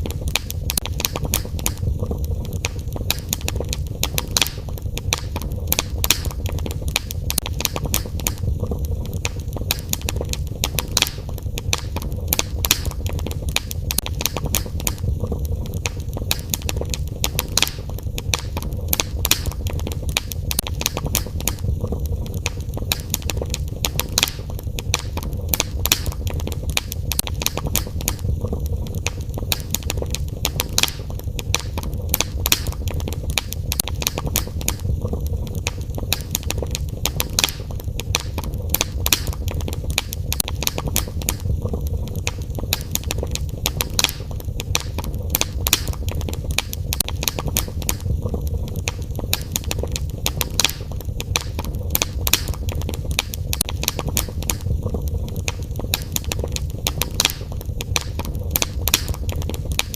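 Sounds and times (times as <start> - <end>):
low steady rumble: 0.0 - 59.8
fire crackling in a fireplace: 0.0 - 59.9.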